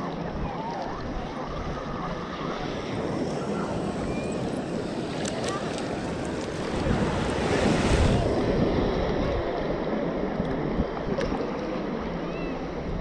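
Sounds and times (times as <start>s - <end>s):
ocean waves breaking: 0.0s - 13.0s
wind buffeting microphone: 0.2s - 13.0s.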